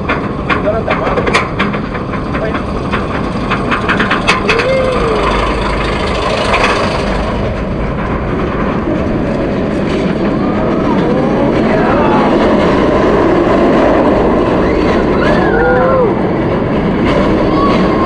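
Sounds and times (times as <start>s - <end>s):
coaster wheels running on track: 0.0s - 18.0s
loud rushing wind: 0.0s - 18.0s
sharp track clacks: 0.0s - 18.0s.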